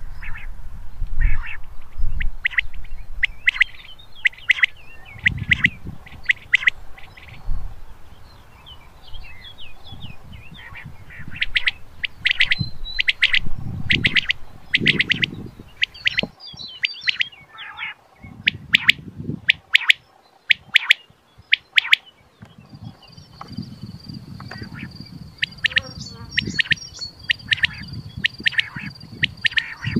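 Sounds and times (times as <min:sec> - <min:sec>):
quail whistled song: 0:01.2 - 0:07.4, 0:09.1 - 0:22.2, 0:24.4 - 0:29.9.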